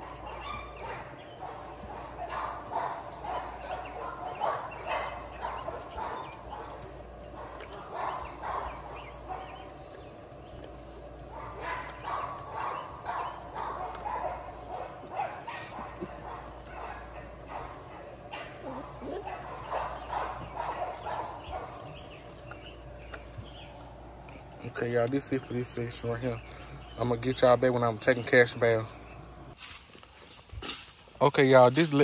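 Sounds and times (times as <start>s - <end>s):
puppies crunching kibble in metal bowl: 0.0s - 32.0s.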